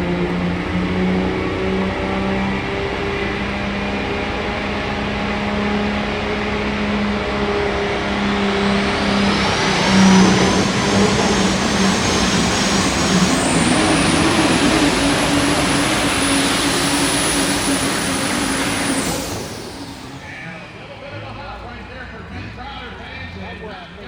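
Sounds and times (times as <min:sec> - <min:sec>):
high whine rising in pitch: 0:00.0 - 0:21.4
diesel truck engine under load: 0:00.0 - 0:24.0.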